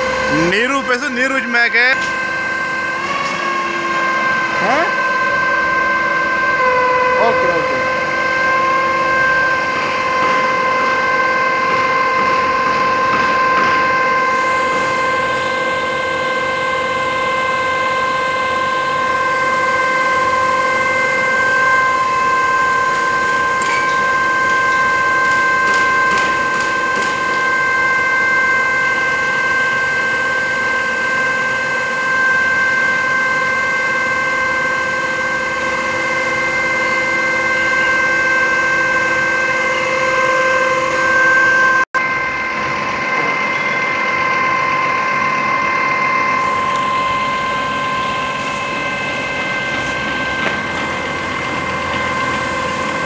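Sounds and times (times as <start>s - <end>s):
hydraulic high whine: 0.0s - 53.0s.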